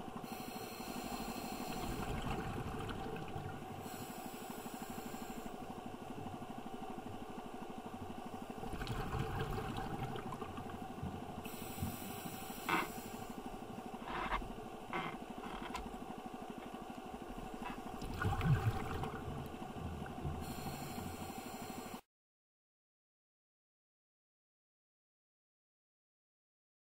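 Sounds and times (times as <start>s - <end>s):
mechanical hum with pulsing beat: 0.0s - 22.0s.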